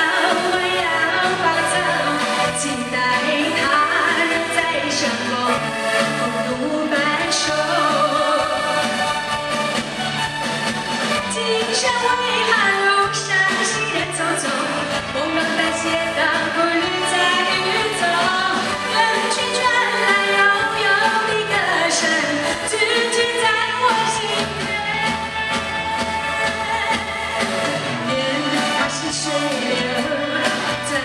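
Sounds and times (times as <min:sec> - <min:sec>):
pop song with singing and band: 0:00.0 - 0:31.0.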